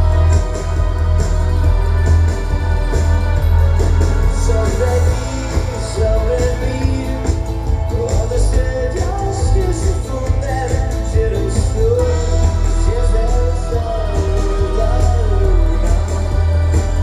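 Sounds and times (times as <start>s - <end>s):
pop-rock song with vocals: 0.0s - 17.0s.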